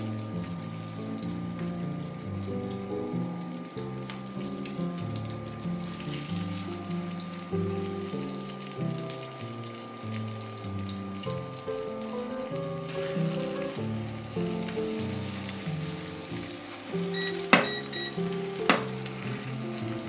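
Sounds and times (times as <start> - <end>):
background music: 0.0 - 20.0
patties sizzling in oil: 0.0 - 20.0.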